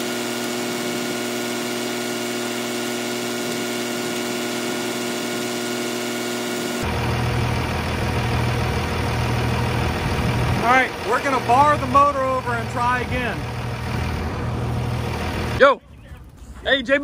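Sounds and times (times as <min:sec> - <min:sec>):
starter motor whining: 0:00.0 - 0:15.6.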